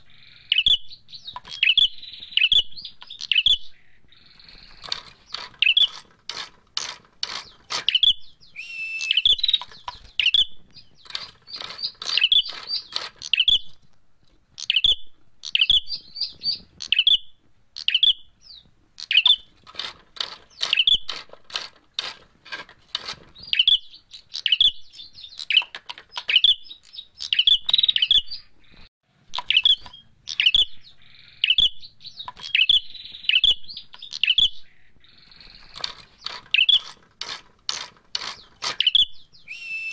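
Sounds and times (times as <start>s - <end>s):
birds chirping sharply: 0.0s - 13.8s, 14.6s - 22.2s, 22.9s - 39.9s.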